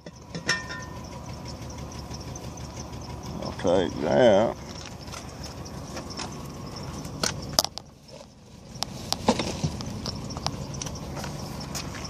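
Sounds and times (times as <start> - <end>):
steady low rumble: 0.1 - 12.0.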